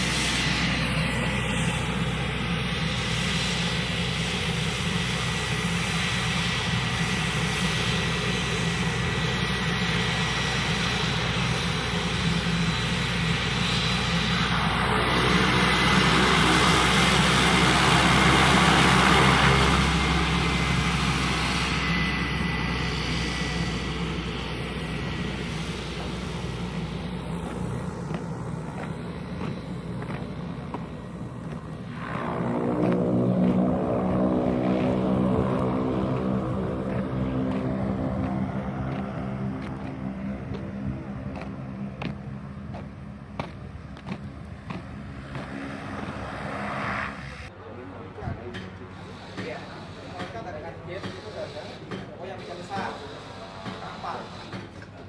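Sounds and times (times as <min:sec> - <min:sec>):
high turbine whine: 0:00.0 - 0:55.0
propeller aircraft drone: 0:00.0 - 0:55.0.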